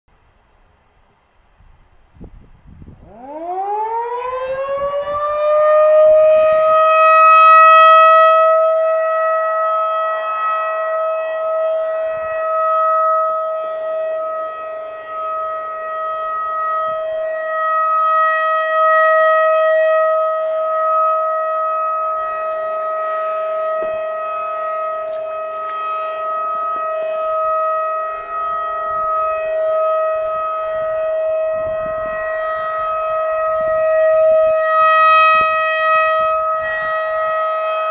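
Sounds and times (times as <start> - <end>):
rotating warning siren: 2.7 - 37.9.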